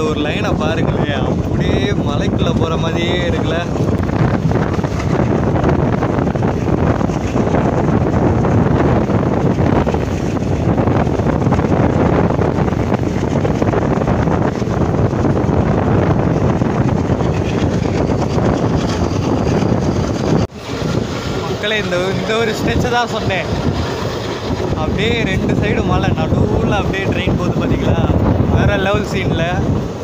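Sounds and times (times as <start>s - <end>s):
train rumbling on track: 0.0s - 30.0s
wind buffeting microphone: 0.0s - 30.0s.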